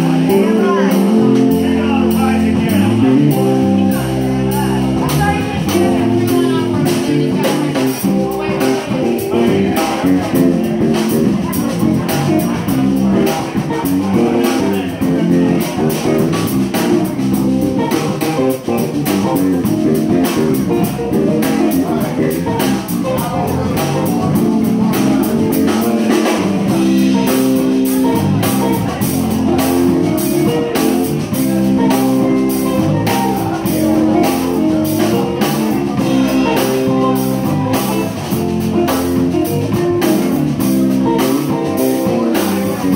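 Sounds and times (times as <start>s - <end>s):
drum kit: 0.0s - 42.9s
electric bass: 0.0s - 42.9s
live band playing: 0.0s - 42.9s.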